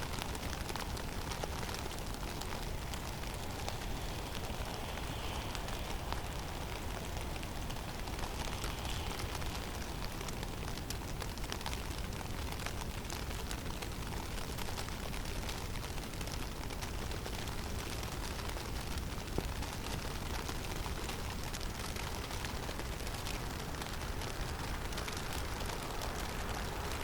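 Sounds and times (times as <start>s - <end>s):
falling snow ticking: 0.0s - 27.0s
wind rumble with hiss: 0.0s - 27.0s.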